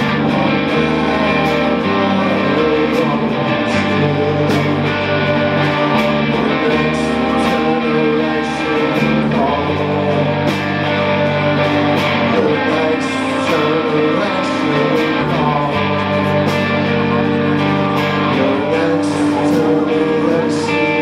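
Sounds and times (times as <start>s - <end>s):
bass: 0.0s - 21.0s
drums and cymbal hits: 0.0s - 21.0s
electric guitar chords: 0.0s - 21.0s.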